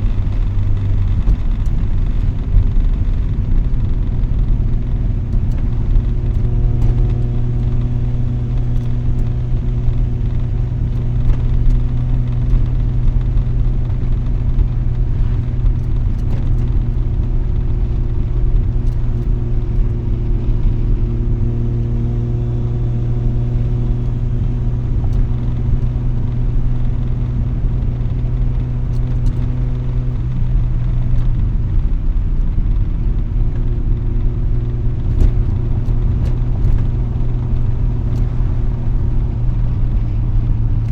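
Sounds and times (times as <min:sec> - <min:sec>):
rotary engine exhaust: 0:00.0 - 0:40.9.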